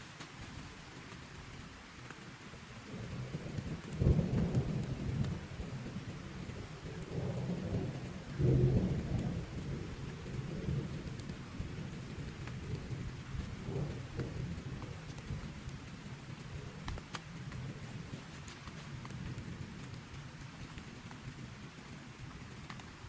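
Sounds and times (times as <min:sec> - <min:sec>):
heavy rain: 0:00.0 - 0:23.0
thunder rumbling: 0:02.8 - 0:22.9.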